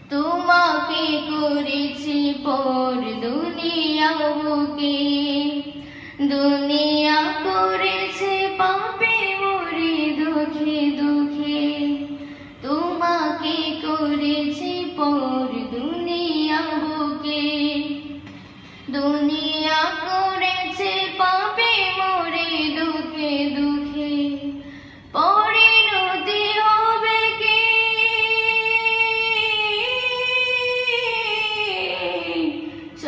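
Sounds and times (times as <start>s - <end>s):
boy singing: 0.1s - 12.0s, 12.6s - 18.0s, 18.9s - 24.5s, 25.2s - 33.0s.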